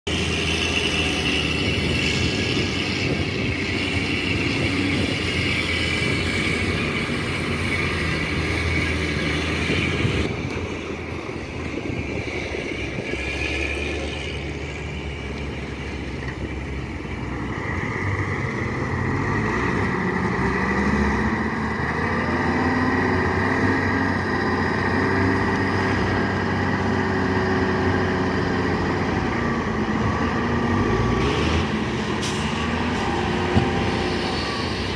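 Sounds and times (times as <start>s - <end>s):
diesel truck engines running: 0.1s - 34.9s.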